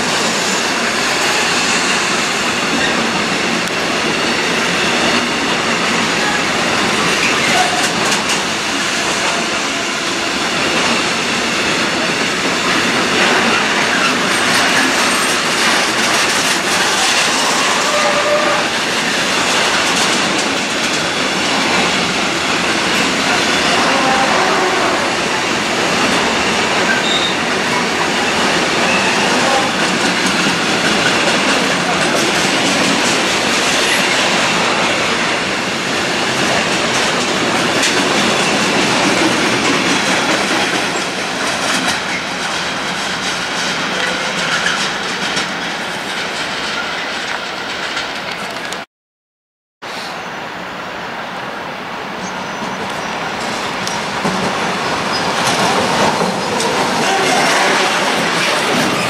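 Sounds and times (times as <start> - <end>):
freight train wagons rolling past: 0.0 - 48.8, 52.1 - 59.0.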